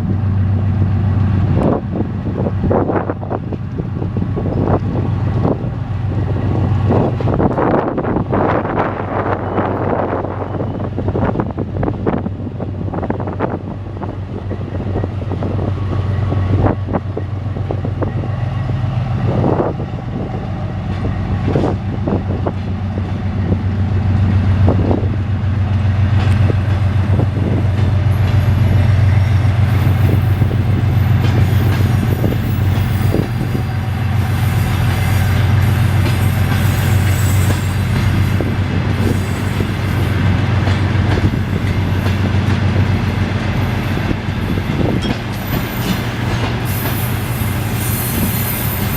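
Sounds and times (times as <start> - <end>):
train low hum: 0.0 - 48.9.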